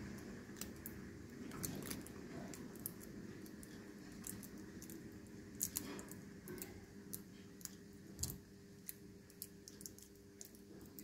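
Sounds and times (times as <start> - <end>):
fingertips clicking and crinkling: 0.0 - 11.0.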